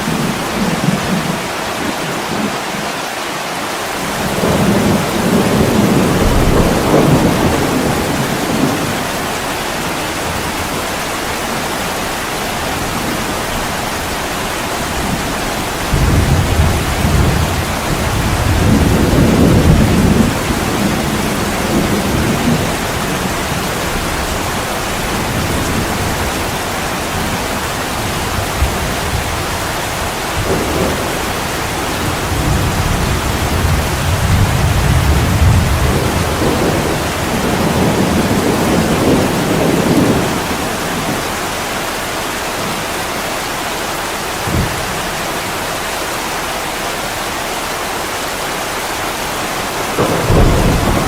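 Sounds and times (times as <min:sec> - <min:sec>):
heavy rain on a window: 0:00.0 - 0:51.0.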